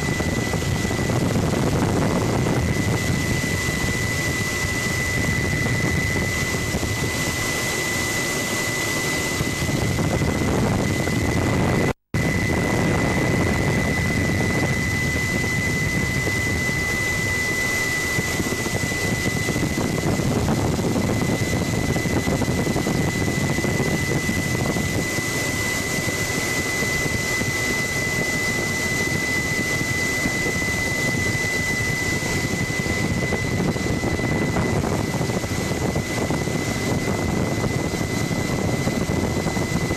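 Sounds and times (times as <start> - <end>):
helicopter cabin rumble: 0.0 - 39.9
high whine: 0.0 - 39.9.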